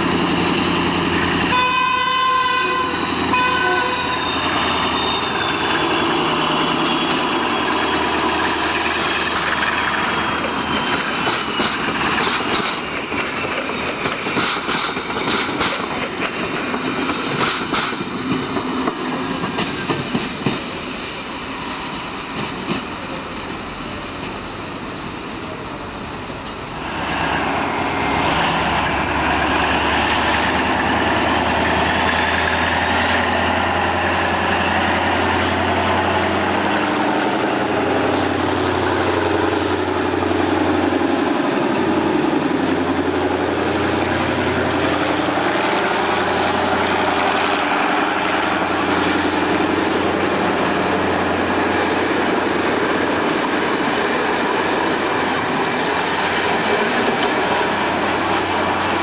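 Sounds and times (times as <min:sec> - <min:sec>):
locomotive engine drone: 0:00.0 - 0:59.0
train rolling: 0:00.0 - 0:59.0.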